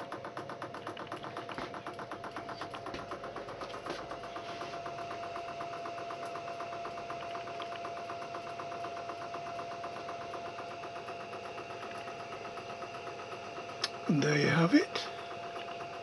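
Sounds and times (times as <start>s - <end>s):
motor whine: 0.0s - 16.0s
rapid even ticking: 0.0s - 16.0s.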